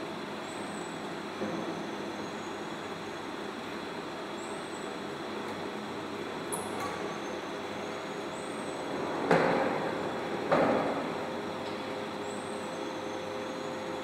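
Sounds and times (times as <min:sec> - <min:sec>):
machine mechanical hum: 0:00.0 - 0:14.0.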